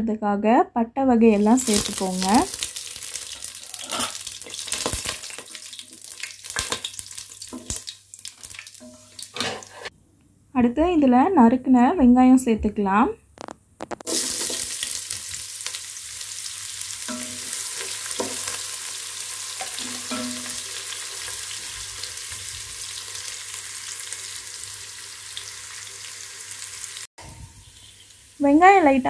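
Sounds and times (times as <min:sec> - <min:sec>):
onions sizzling in hot oil: 0:01.4 - 0:09.9, 0:14.0 - 0:29.0.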